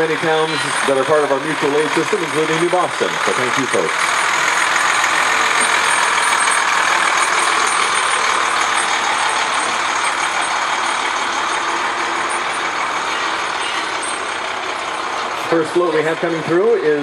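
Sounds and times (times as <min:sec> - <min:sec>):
truck passing slowly: 0:00.0 - 0:17.0.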